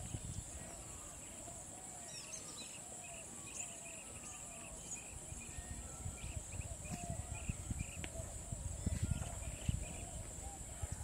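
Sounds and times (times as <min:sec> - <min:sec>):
insect chirps: 0:00.0 - 0:10.7
high-pitched insect chorus: 0:00.0 - 0:11.0
faint bird whistles: 0:00.6 - 0:10.9.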